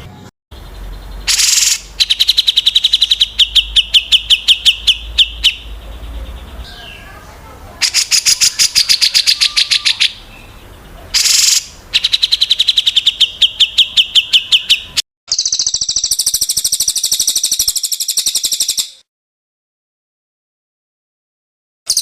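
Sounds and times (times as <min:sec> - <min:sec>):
songbirds singing fast trills: 0:00.5 - 0:19.0.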